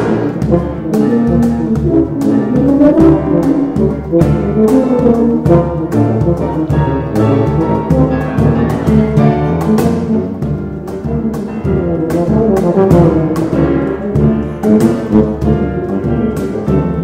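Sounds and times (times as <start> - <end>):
piano: 0.0 - 17.0
tubas playing: 0.0 - 17.0.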